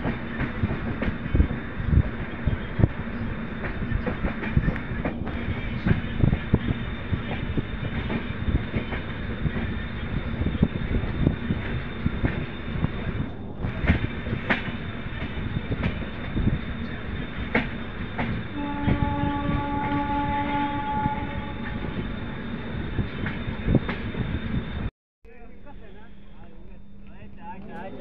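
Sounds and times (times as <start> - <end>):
train rumble and rushing air: 0.0 - 24.9.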